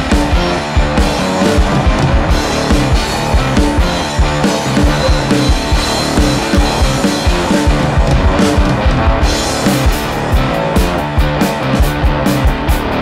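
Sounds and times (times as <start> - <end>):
instrumental rock band: 0.0 - 13.0.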